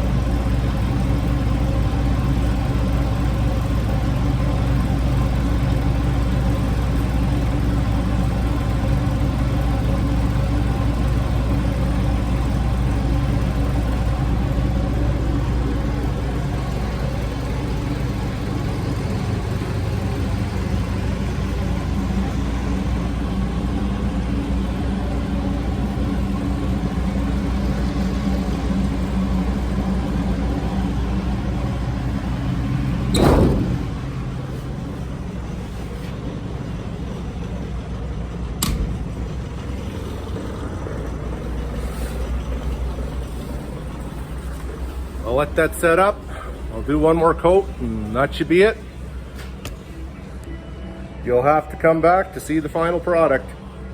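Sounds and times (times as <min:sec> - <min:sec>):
machine humming: 0:00.0 - 0:51.2.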